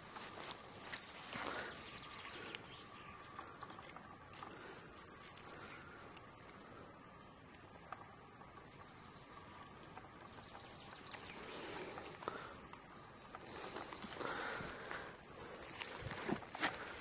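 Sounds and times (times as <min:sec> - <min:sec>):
grass rustling and crackling: 0:00.0 - 0:17.0.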